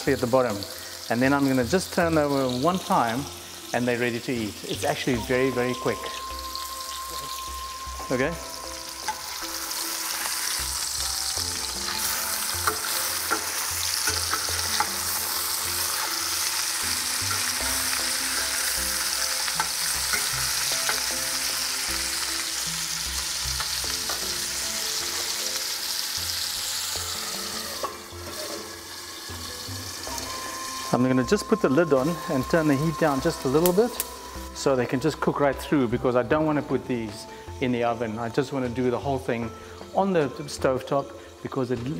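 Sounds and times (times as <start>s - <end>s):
fish sizzling in butter: 0.0s - 35.9s.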